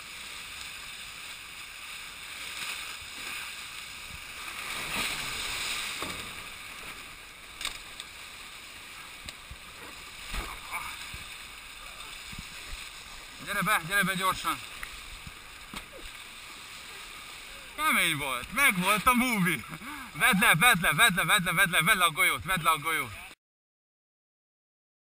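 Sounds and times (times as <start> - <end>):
water rushing along hulls: 0.0 - 23.3.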